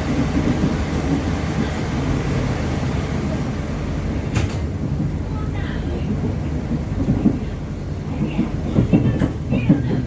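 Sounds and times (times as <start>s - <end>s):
train rumble from inside carriage: 0.0s - 10.0s.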